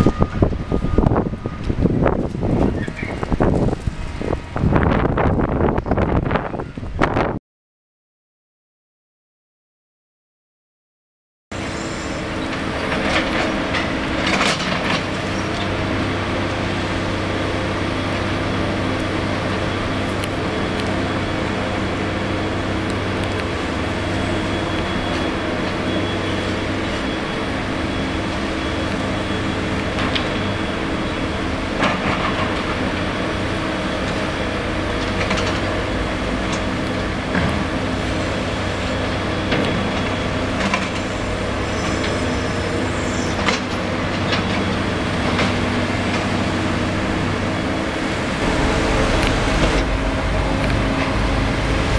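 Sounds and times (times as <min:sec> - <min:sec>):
excavator engine and hydraulics: 0:00.0 - 0:07.3, 0:11.5 - 0:51.9.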